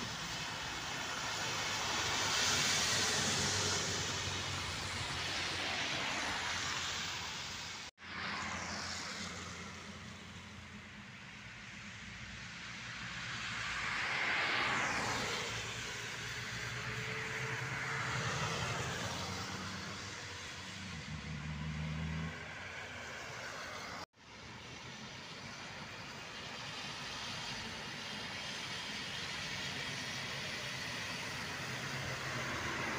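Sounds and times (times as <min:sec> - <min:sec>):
bus engine passing: 0:00.0 - 0:12.0, 0:13.0 - 0:32.9
tyres hissing on wet road: 0:00.0 - 0:32.9.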